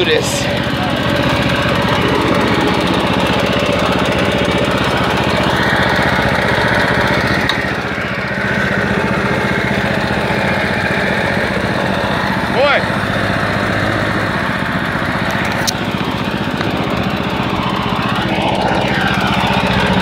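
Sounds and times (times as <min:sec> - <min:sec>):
leaf blower engine running: 0:00.0 - 0:20.0.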